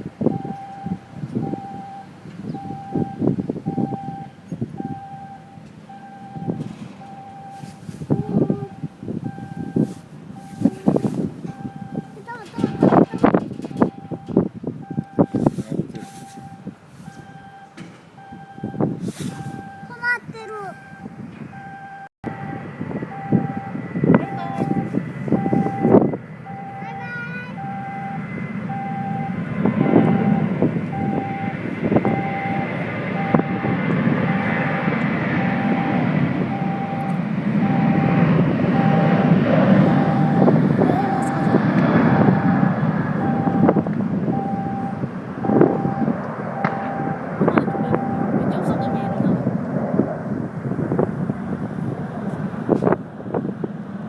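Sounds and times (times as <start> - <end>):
low rumbling: 0.0 - 26.8, 27.5 - 54.0
electronic warning beeps: 0.2 - 49.4.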